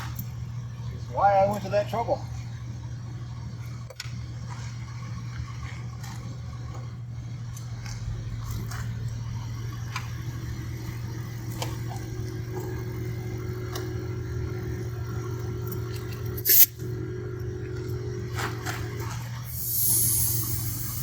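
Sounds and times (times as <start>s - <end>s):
air compressor humming: 0.0s - 21.0s.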